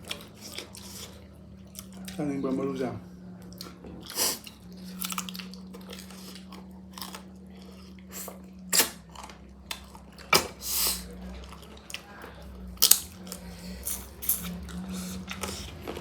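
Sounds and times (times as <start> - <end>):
wet chewing mouth sounds: 0.0 - 2.2, 3.4 - 16.0
noisy eating bursts: 0.0 - 16.0.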